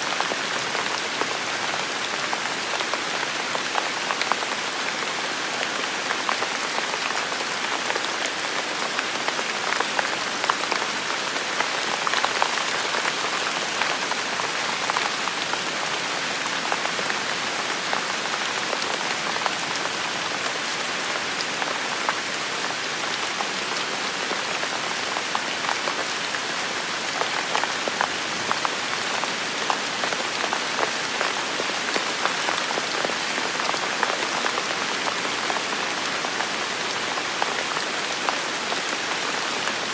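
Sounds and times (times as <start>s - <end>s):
heavy rain pattering on leaves: 0.0s - 39.9s.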